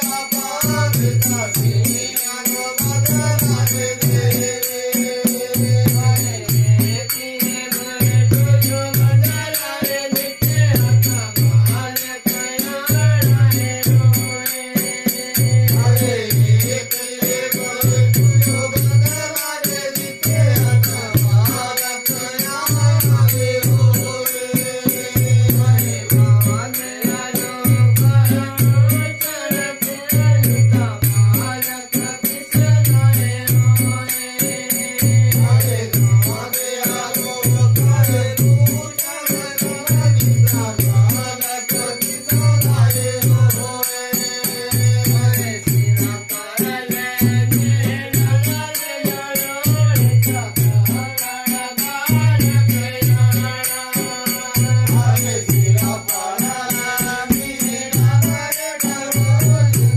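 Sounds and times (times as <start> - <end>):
jingling hand percussion rattle: 0.0 - 59.9
men singing: 0.0 - 59.9.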